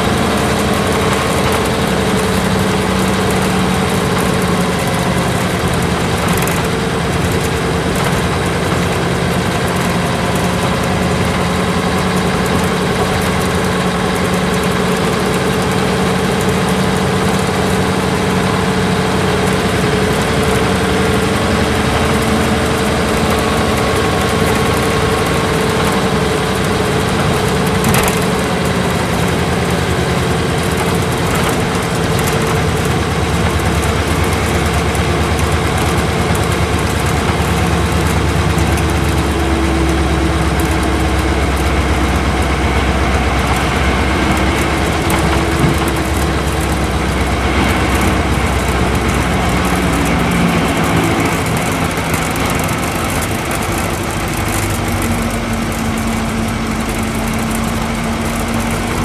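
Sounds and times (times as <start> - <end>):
bus diesel engine running: 0.0 - 59.0
road noise: 0.0 - 59.0.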